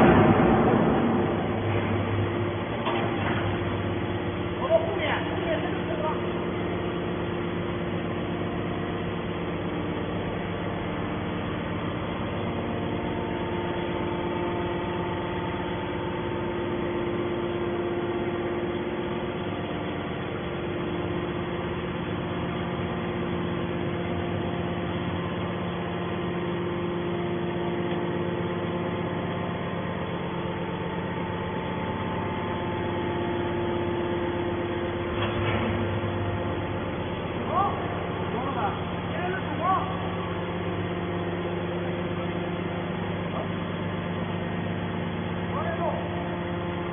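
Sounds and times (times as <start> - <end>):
hydraulic baler humming: 0.0 - 46.9.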